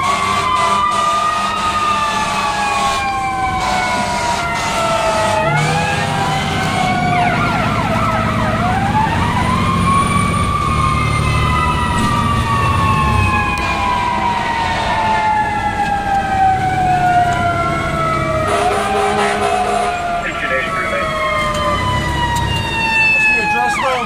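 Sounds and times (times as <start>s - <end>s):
fire engine siren wailing: 0.0s - 24.0s
truck engine rumbling: 0.0s - 24.0s.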